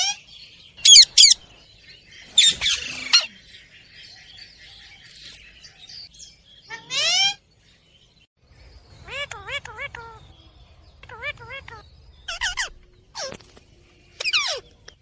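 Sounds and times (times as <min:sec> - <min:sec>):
sharp bird chirps: 0:00.0 - 0:15.0.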